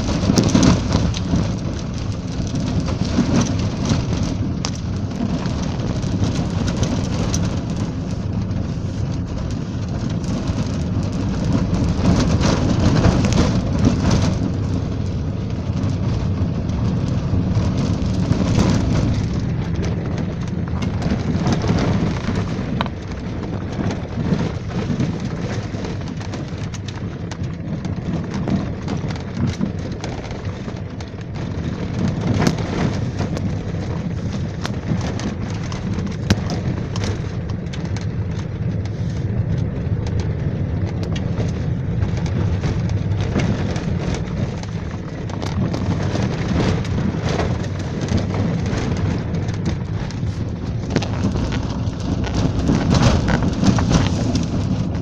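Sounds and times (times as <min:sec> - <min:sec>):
small rattles and knocks: 0:00.0 - 0:55.0
wind and road noise: 0:00.0 - 0:55.0.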